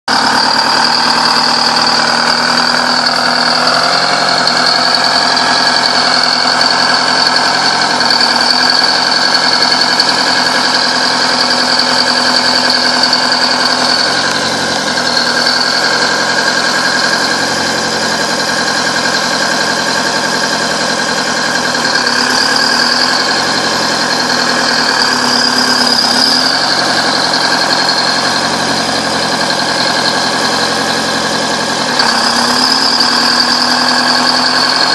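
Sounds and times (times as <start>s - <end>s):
bulldozer engine running: 0.0s - 34.9s.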